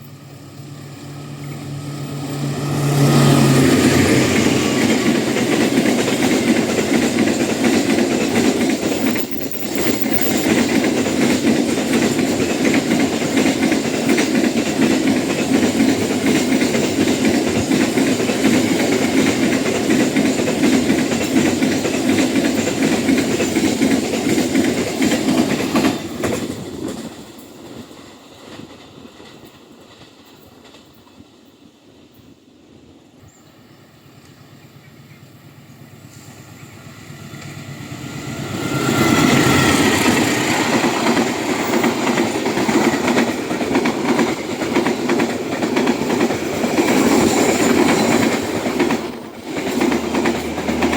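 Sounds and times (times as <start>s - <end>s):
train passing at speed: 0.0s - 50.9s.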